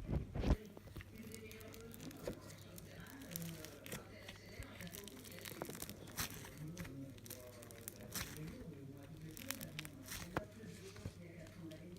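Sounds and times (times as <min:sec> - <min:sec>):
slime crackling and popping: 0:00.4 - 0:10.6.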